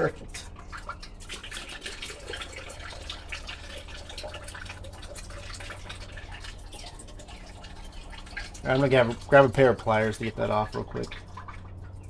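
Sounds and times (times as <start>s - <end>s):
liquid dripping into funnel: 0.0s - 12.0s.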